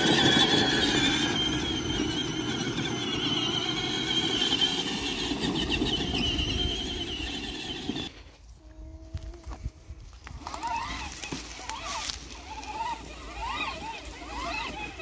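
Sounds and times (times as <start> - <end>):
toy motor and gearbox whining: 0.0 - 8.2, 9.4 - 15.0
wheels rolling rumble: 0.0 - 15.0.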